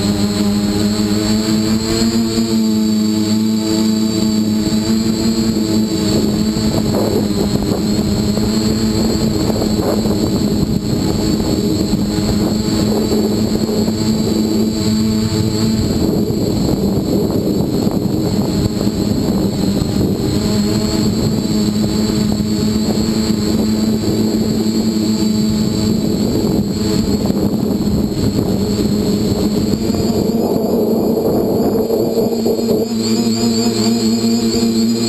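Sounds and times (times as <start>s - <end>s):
quadcopter propellers buzzing: 0.0s - 35.0s.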